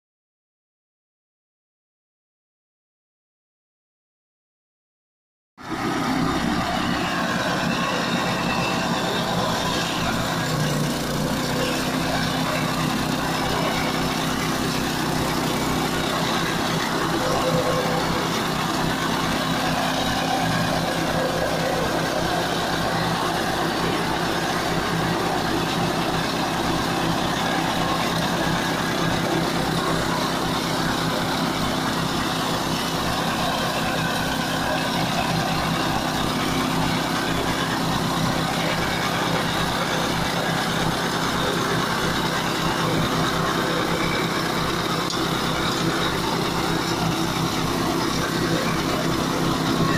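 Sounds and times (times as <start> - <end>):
mower cutting tall grass: 5.6 - 49.9
mower engine running: 5.6 - 49.9.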